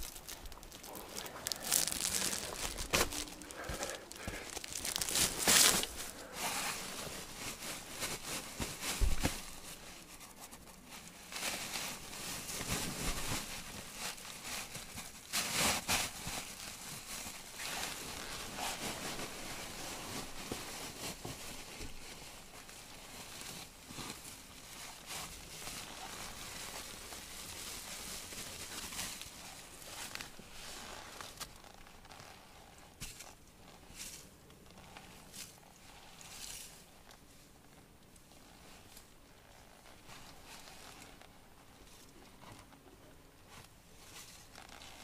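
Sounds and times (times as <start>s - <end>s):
debris rustling and crinkling: 0.0s - 45.0s.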